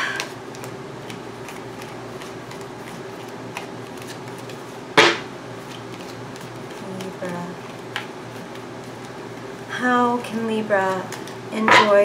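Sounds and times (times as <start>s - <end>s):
faint steady hum: 0.0s - 12.0s
cards being shuffled: 0.1s - 4.8s, 5.6s - 11.4s.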